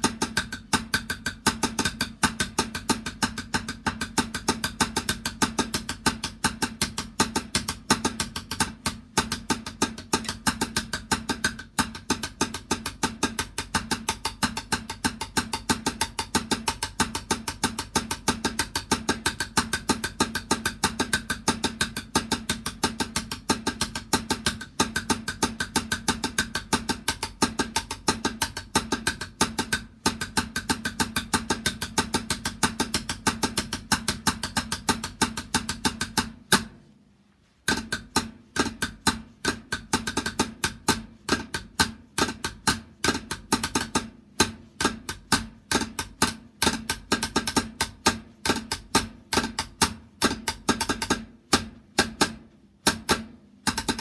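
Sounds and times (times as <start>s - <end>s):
drum beating fast: 0.0s - 36.8s, 37.7s - 54.0s.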